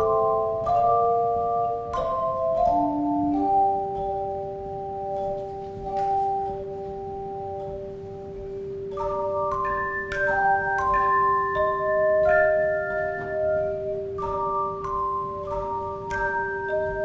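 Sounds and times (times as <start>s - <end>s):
handbell choir ringing chords: 0.0s - 17.0s.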